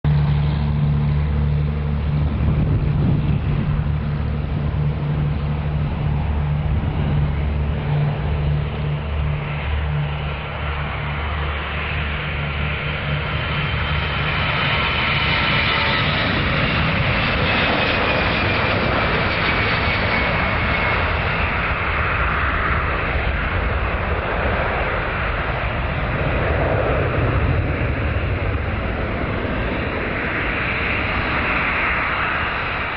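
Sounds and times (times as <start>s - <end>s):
jet engine whine: 0.0s - 32.9s
jet engines roaring: 0.1s - 32.9s.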